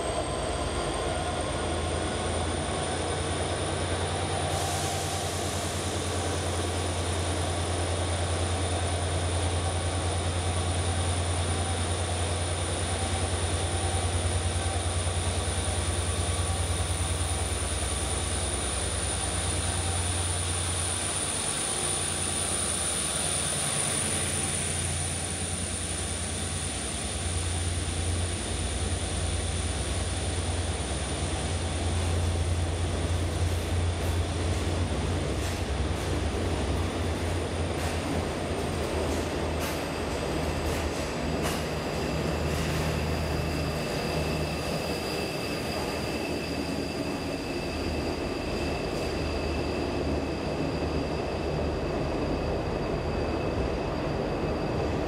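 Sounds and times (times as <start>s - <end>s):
locomotive engine drone: 0.0s - 55.0s.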